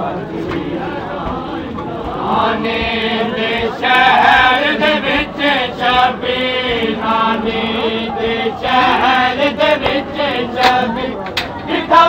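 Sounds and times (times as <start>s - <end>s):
crowd noise: 0.0s - 12.0s
men chanting in unison: 0.0s - 12.0s.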